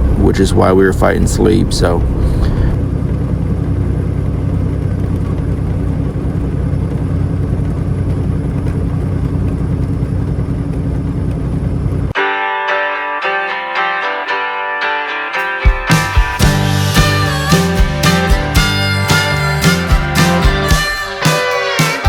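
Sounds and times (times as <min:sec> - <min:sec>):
diesel engine and road noise in cab: 0:00.0 - 0:12.2, 0:16.4 - 0:22.0.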